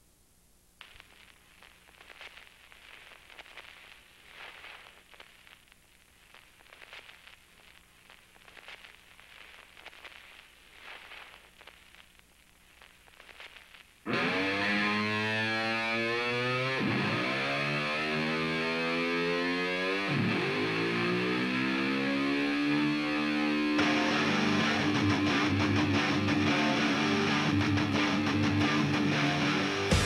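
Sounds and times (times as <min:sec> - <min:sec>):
crackling static with clicks: 0:00.0 - 0:14.6, 0:15.6 - 0:21.2, 0:22.4 - 0:30.0.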